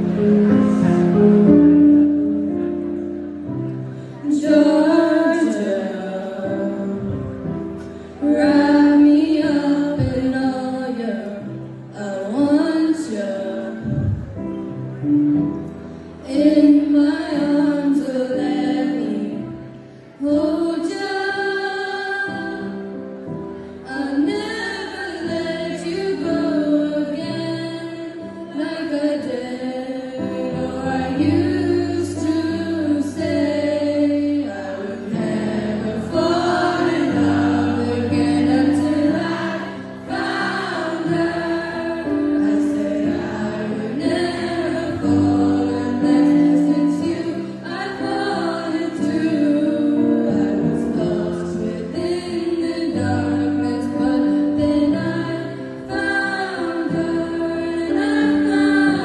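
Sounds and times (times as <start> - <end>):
girls singing through microphones: 4.2 - 14.5, 16.2 - 23.1, 23.8 - 59.0.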